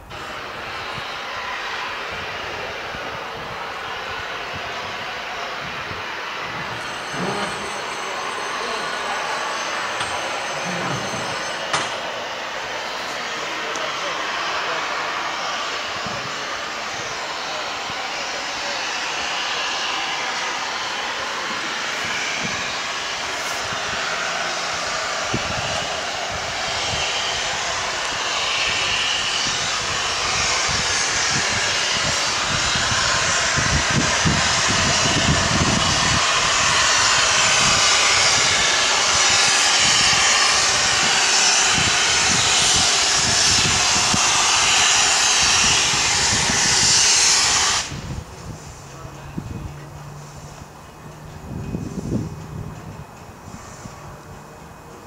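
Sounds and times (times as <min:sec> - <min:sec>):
loud hiss of steam: 0:00.0 - 0:55.0.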